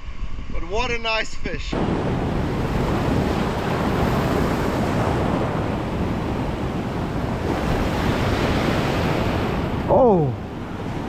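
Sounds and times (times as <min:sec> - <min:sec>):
wind rumbling on microphone: 0:00.0 - 0:11.0
ocean surf roaring: 0:01.7 - 0:11.0.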